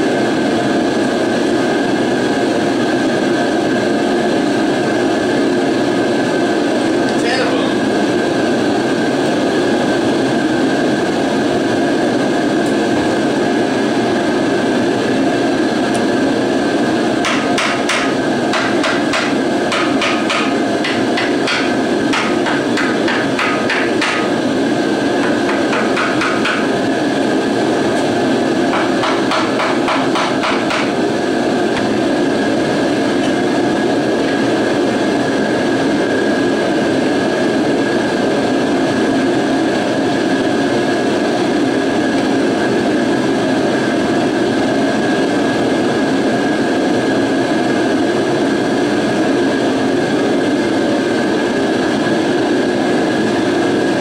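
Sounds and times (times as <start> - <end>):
heater droning: 0.0 - 54.0.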